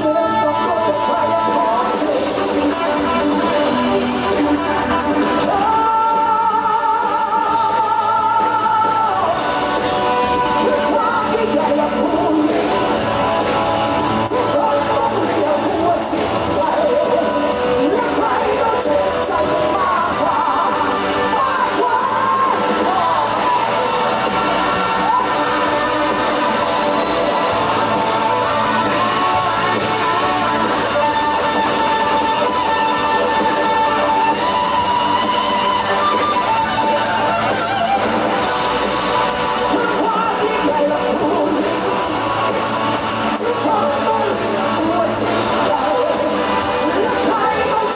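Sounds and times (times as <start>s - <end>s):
drums: 0.0s - 47.9s
guitar: 0.0s - 47.9s
person singing with vibrato: 0.0s - 47.9s.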